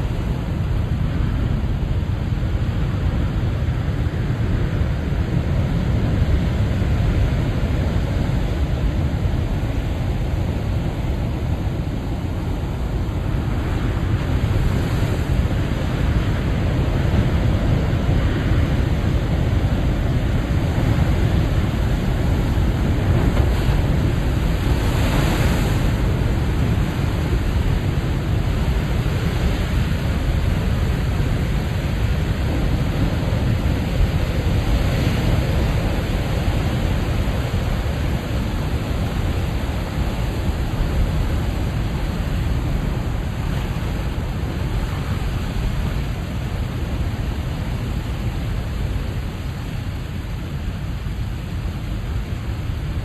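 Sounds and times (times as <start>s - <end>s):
ocean waves breaking: 0.0s - 53.0s
wind buffeting microphone: 0.0s - 53.0s.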